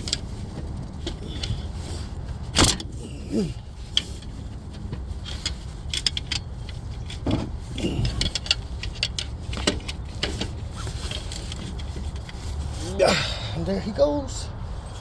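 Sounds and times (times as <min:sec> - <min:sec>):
metal tools clinking: 0:01.1 - 0:13.5.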